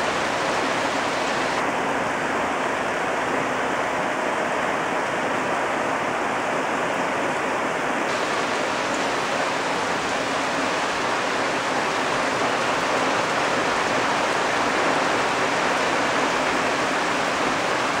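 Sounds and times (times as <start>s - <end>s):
heavy rain on leaves: 0.0s - 18.0s.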